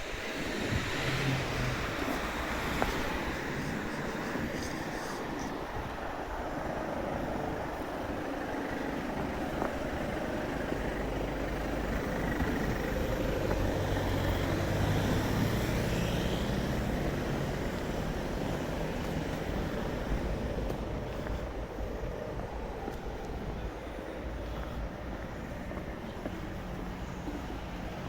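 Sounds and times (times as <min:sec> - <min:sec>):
road traffic rumble: 0:00.0 - 0:28.0
vehicle engine hum: 0:00.0 - 0:28.0.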